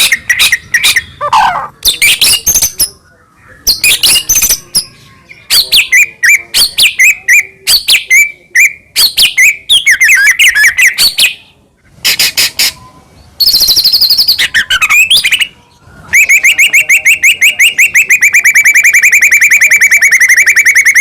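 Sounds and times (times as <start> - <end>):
bird singing with whistles: 0.0 - 11.5, 12.1 - 21.0
bird rapid harsh notes: 0.0 - 21.0.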